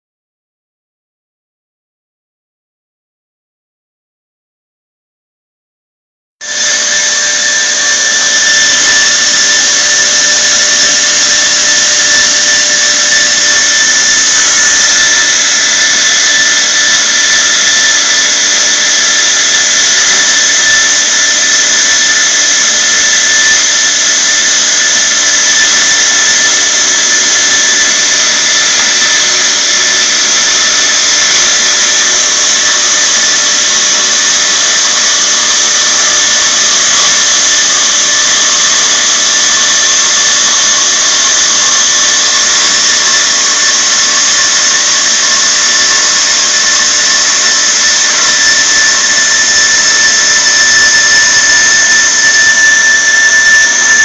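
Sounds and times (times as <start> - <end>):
band saw running: 6.4 - 54.0.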